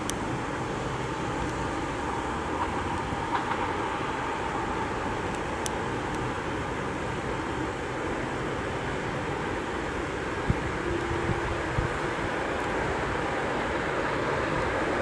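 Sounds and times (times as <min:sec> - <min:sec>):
train running on rails: 0:00.0 - 0:15.0.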